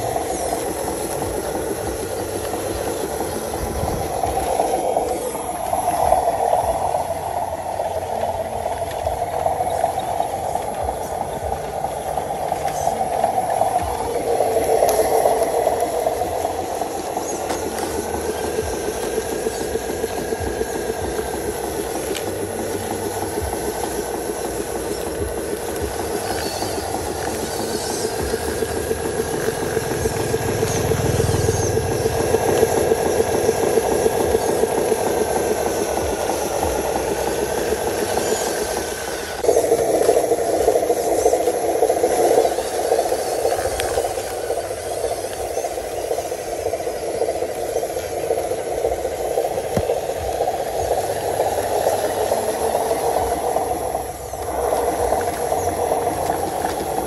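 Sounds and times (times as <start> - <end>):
electric motor whine: 0.0 - 57.0.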